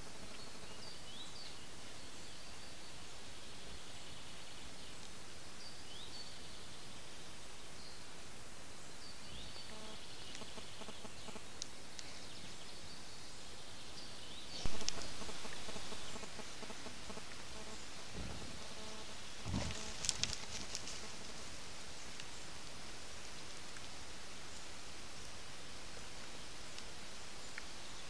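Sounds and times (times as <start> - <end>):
microphone hiss: 0.0 - 28.0.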